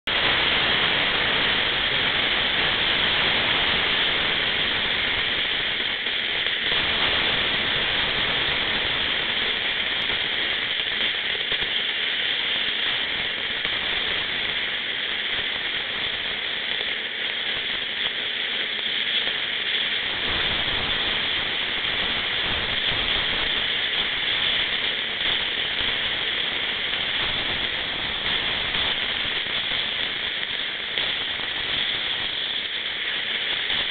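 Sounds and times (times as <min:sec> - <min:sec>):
gas hissing from cylinder valve: 0:00.1 - 0:33.9.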